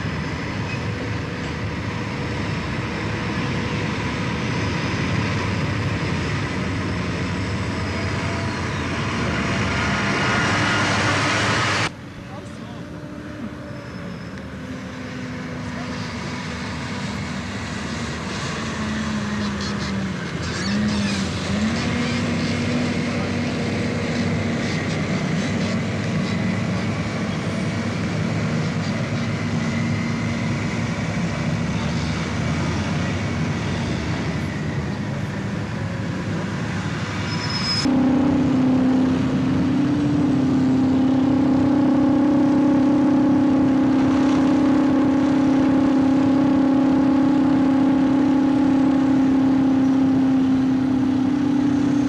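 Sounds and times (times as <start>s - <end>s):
heavy machinery engines droning: 0.0s - 52.0s.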